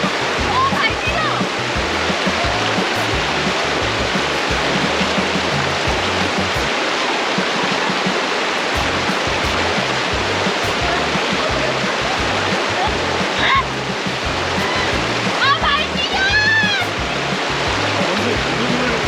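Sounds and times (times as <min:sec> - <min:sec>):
background music: 0:00.0 - 0:06.9, 0:07.9 - 0:19.0
stream water rushing: 0:00.0 - 0:19.0.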